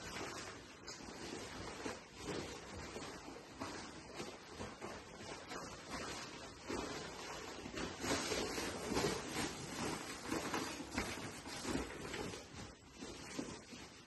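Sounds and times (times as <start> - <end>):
fabric rustling in nylon bag: 0.0 - 14.0.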